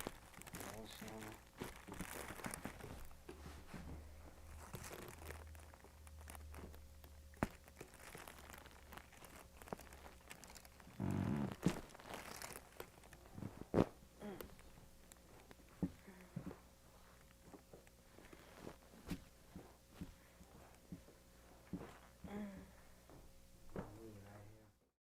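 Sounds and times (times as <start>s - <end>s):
faint rustling and crinkling: 0.0s - 24.8s.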